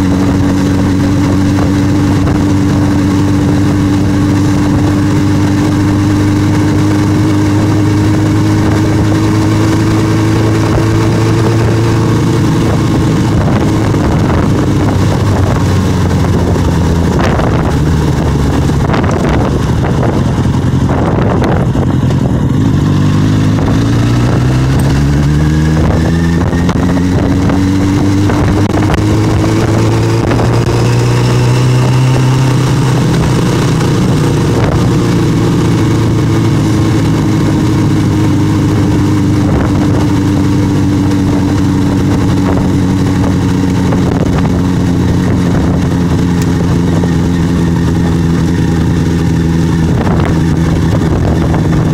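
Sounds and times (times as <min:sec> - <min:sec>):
motorcycle engine accelerating: 0:00.0 - 0:51.9
wind noise: 0:00.0 - 0:51.9.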